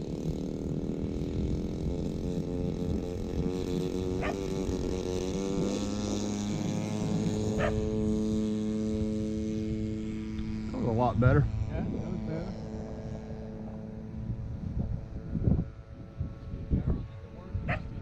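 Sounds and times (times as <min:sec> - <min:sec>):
model plane engine running: 0:00.0 - 0:18.0.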